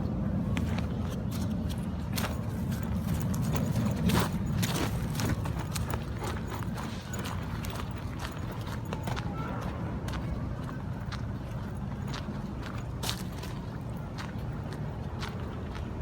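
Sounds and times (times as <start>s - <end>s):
footsteps crunching on forest floor: 0.5s - 15.9s.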